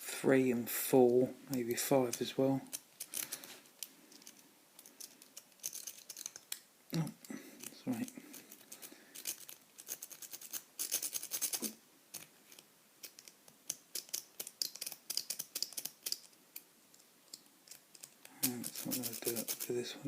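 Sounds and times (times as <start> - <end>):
lock pick scraping and clicking: 2.1 - 6.6, 7.6 - 19.7.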